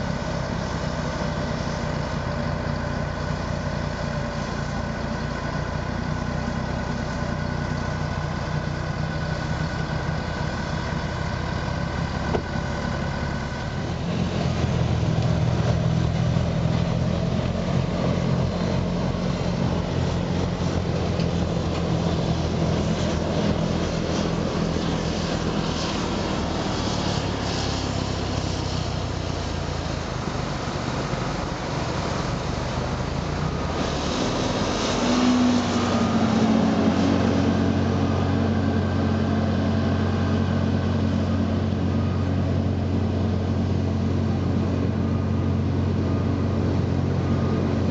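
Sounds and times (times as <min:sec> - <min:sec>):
heavy diesel engine drone: 0:00.0 - 0:47.9
snow blower throwing snow: 0:05.9 - 0:47.9.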